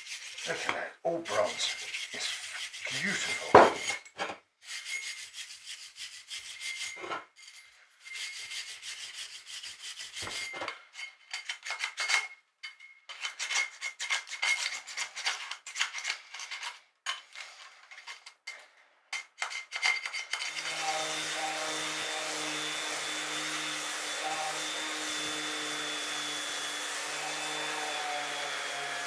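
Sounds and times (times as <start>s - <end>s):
hand scraping bronze base: 0.0s - 18.4s, 19.2s - 28.9s.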